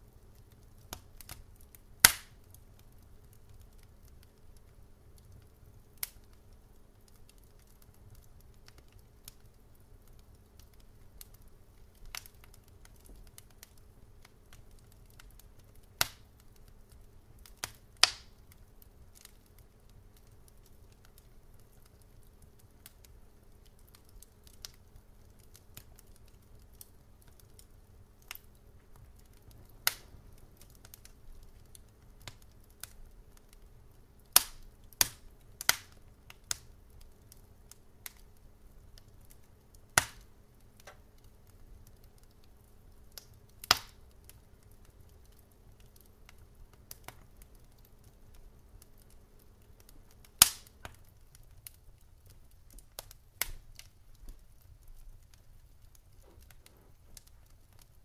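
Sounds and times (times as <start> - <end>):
faint steady hum: 0.0 - 58.0
sharp cracks and clicks: 0.4 - 33.6, 34.2 - 38.4, 39.0 - 54.4.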